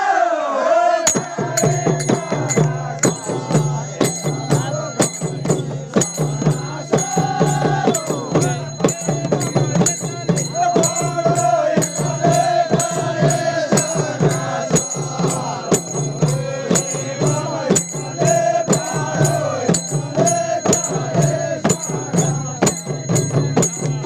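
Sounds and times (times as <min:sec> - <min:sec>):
voices chanting devotional song: 0:00.0 - 0:24.0
frame drums with jingles: 0:01.0 - 0:24.0.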